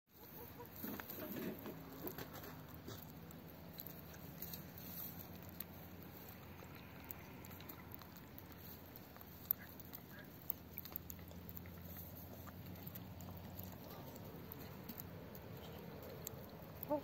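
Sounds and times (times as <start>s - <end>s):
hen beak pecking: 0.1s - 17.0s
low steady hum: 0.2s - 17.0s.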